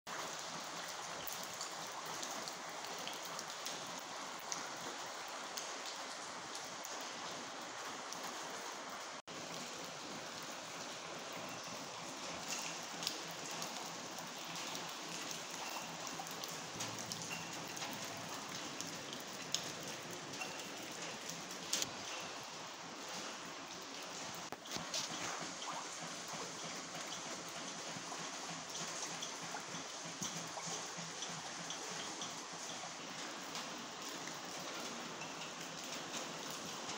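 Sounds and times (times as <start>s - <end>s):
drips and splashes: 0.1s - 36.9s
water falling on concrete floor: 0.1s - 36.9s.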